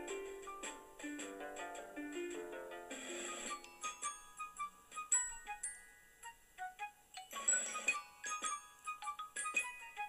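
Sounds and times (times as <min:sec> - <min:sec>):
plucked-string melody: 0:00.0 - 0:10.0.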